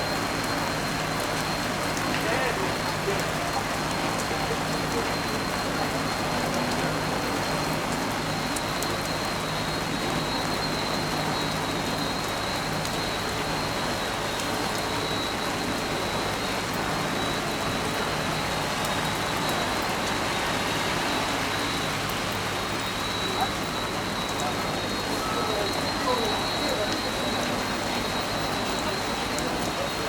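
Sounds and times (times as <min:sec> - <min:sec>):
water spraying and falling: 0:00.0 - 0:30.0.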